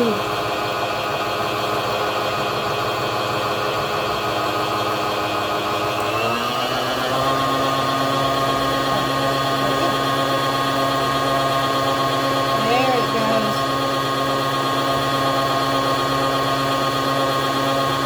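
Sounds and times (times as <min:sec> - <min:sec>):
stand mixer motor humming: 0:00.0 - 0:18.0.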